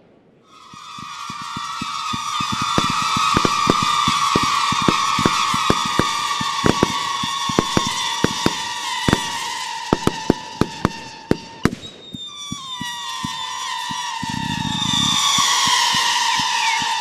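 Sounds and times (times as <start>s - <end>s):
firework whistling: 0.4s - 17.0s
firework bangs: 0.5s - 17.0s.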